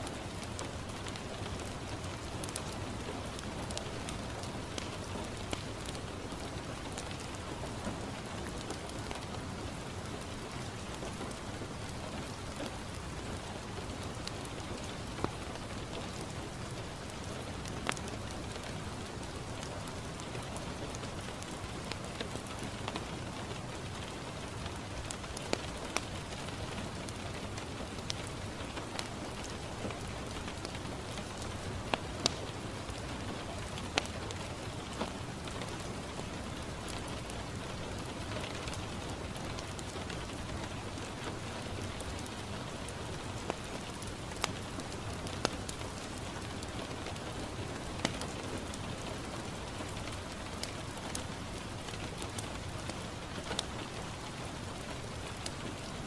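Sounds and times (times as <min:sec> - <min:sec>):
rain on a window: 0:00.0 - 0:56.0
wood fire crackling: 0:00.0 - 0:56.0.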